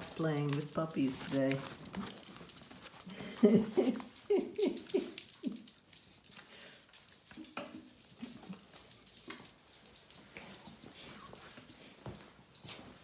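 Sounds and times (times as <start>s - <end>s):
paws pattering on floor: 0.0s - 13.0s.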